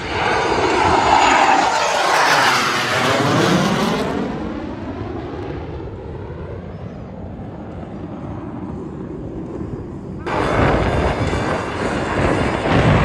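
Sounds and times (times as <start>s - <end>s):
airplane passing by: 0.0s - 13.0s.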